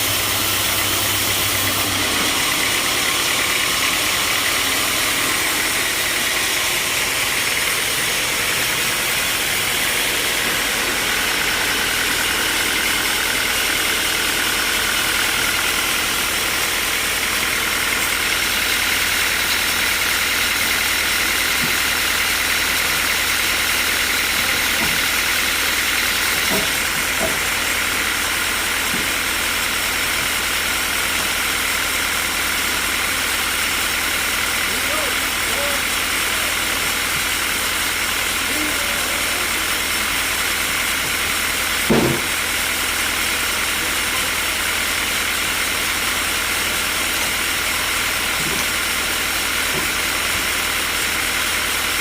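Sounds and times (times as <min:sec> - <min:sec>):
sawmill machinery humming: 0:00.0 - 0:52.0.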